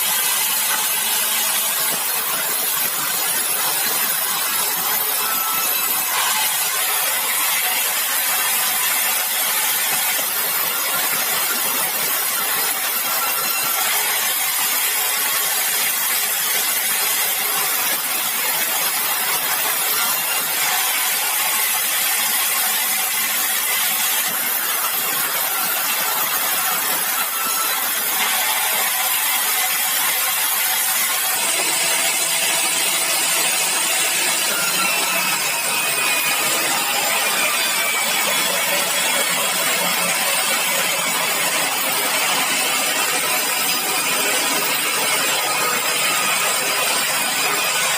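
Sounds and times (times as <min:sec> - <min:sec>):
sawmill saw cutting timber: 0:00.0 - 0:47.9.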